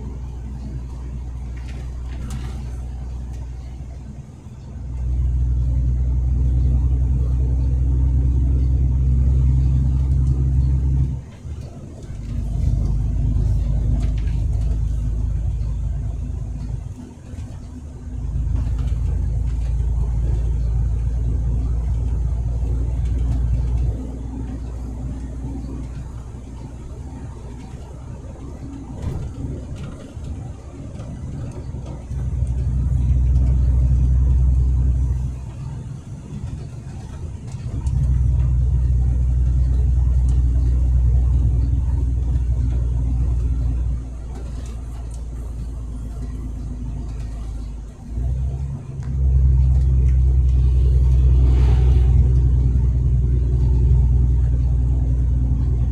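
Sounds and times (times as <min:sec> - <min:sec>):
truck rumbling on road: 0:00.0 - 0:55.9.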